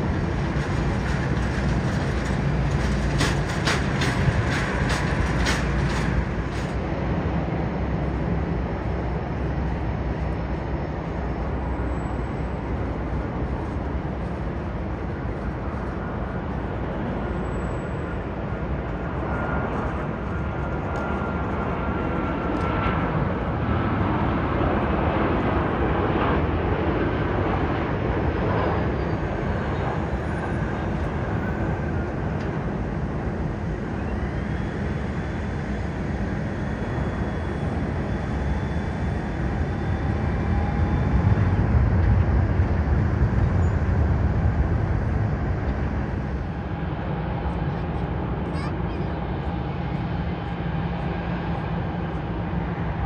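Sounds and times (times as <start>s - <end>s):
jet engine rumble: 0.0s - 53.0s
jet engine whine: 0.0s - 53.0s.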